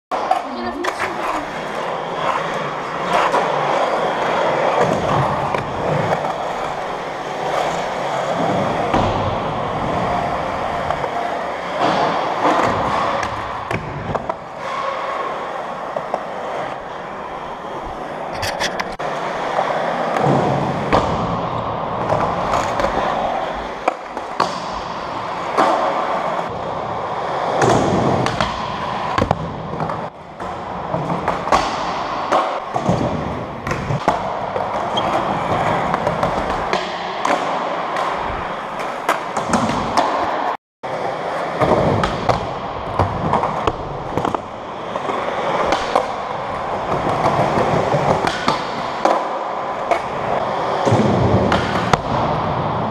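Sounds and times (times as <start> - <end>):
skateboards clacking on ground: 0.1 - 21.3, 27.3 - 52.9
skateboard wheels rolling on concrete: 0.1 - 52.9.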